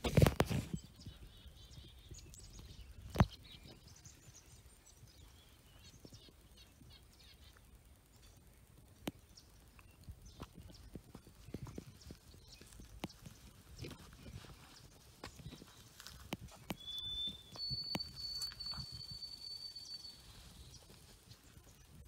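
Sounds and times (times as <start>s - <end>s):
faint high bird chirping: 0.5s - 22.0s.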